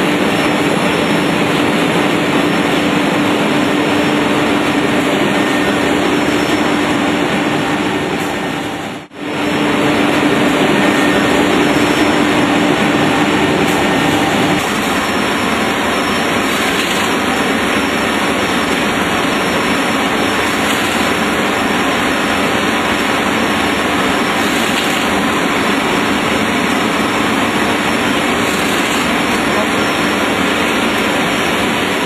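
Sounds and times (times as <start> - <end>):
machine drone: 0.0 - 32.0.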